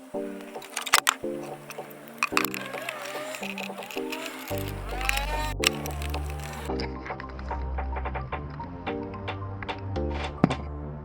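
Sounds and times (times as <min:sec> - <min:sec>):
background music with bass: 0:01.3 - 0:11.0.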